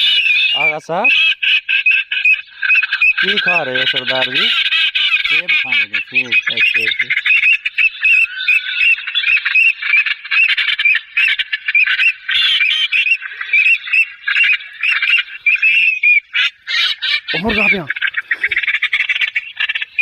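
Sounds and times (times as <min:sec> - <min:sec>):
birds calling and squawking: 0:00.0 - 0:20.0.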